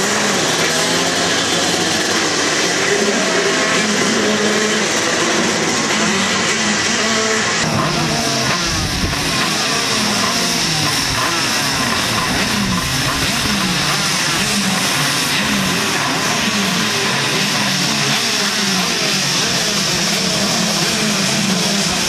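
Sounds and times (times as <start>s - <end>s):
kart engines revving: 0.0s - 22.0s.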